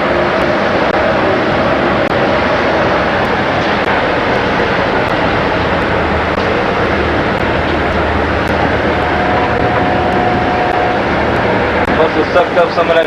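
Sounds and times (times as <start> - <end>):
powerboat engine: 0.0 - 13.0
rushing wind and water: 0.0 - 13.0
thin steady whine: 0.0 - 13.0.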